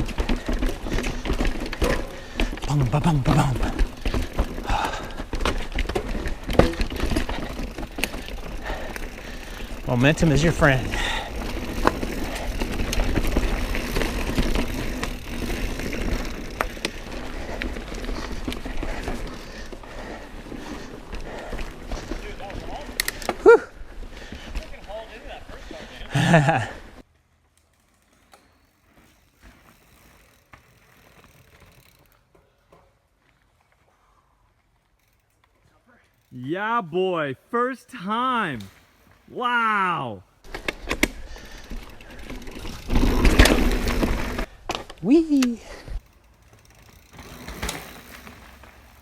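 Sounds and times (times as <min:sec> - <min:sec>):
bike clicks and rattles: 0:00.0 - 0:36.4, 0:40.4 - 0:49.0
bike tyre noise on trail: 0:00.0 - 0:49.0.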